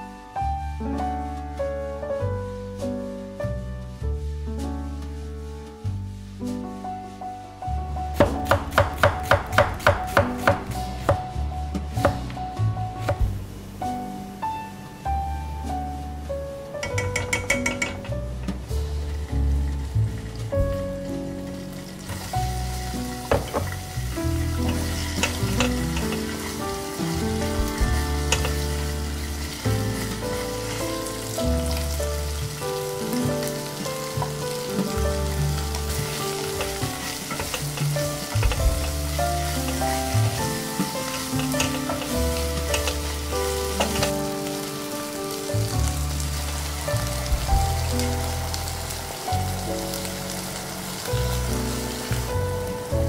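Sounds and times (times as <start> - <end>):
background music: 0.0 - 53.0
food sizzling in hot oil: 4.2 - 53.0.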